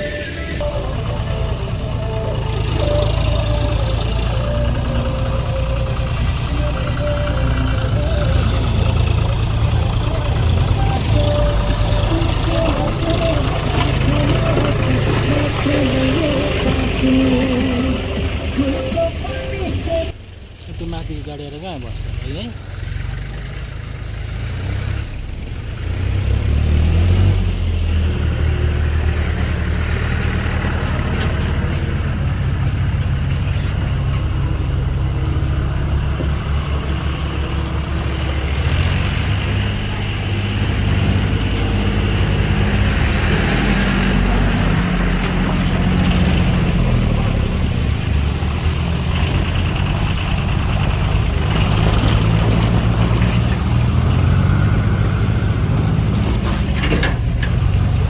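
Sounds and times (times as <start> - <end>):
heavy vehicle engine under load: 0.0 - 58.0.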